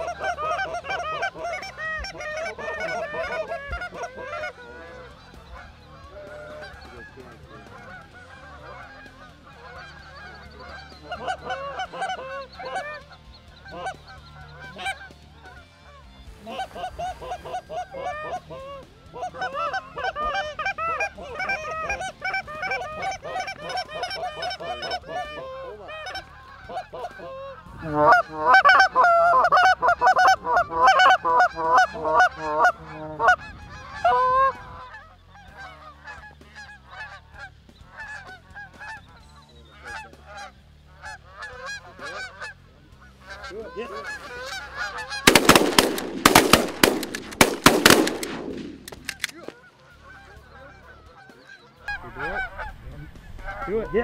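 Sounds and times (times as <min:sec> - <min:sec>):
geese honking: 0:00.0 - 0:54.0
wings flapping: 0:00.0 - 0:54.0.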